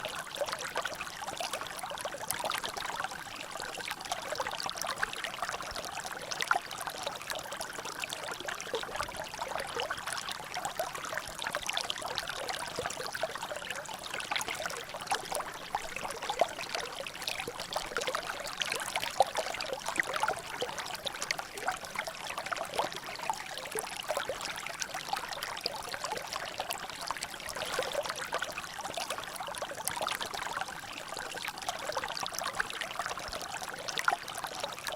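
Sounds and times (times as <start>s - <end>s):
water trickling and dripping: 0.0s - 34.9s.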